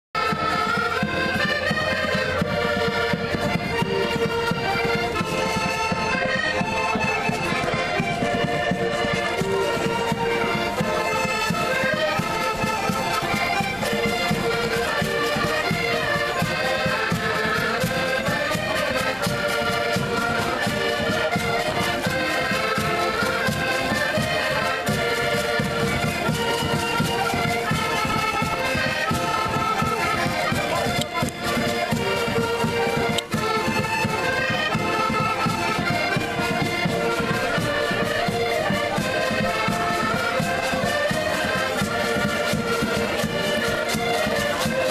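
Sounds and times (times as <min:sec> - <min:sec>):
button accordions playing folk tune: 0:00.2 - 0:44.9.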